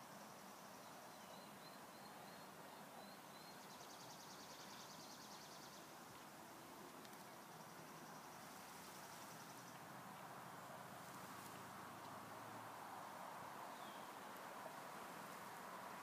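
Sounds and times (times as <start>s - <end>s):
distant small birds chirping: 0.0s - 16.0s.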